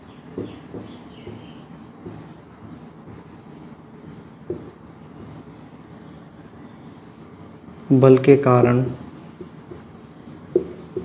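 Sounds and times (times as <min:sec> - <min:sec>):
marker scratching on whiteboard: 0:00.0 - 0:08.1, 0:08.8 - 0:11.0.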